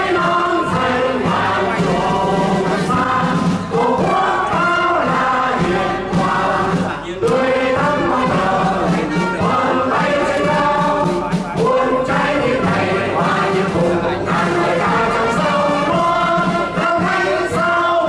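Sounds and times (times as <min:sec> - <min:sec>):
choir singing: 0:00.0 - 0:18.0
musical accompaniment: 0:00.0 - 0:18.0.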